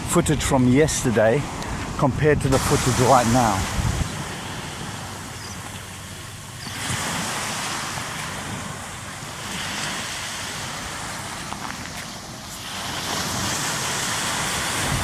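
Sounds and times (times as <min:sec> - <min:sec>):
gusty wind: 0:00.0 - 0:15.0
surf on a beach: 0:00.0 - 0:15.0.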